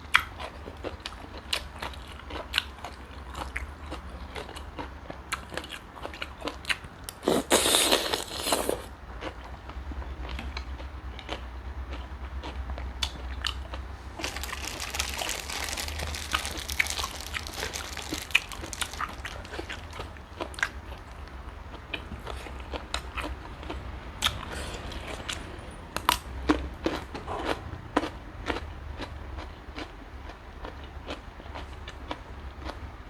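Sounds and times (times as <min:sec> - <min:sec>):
person chewing and crunching: 0:00.0 - 0:32.9
steady low hum: 0:00.0 - 0:33.0.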